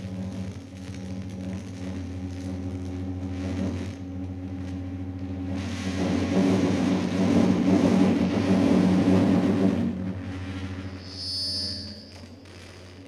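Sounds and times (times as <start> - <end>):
low hum of held tones: 0.0 - 13.0.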